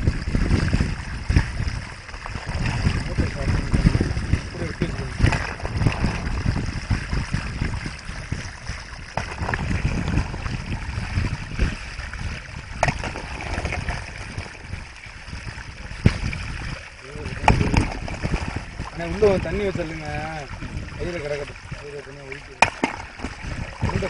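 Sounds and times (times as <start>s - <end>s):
water sloshing and trickling: 0.0s - 24.0s.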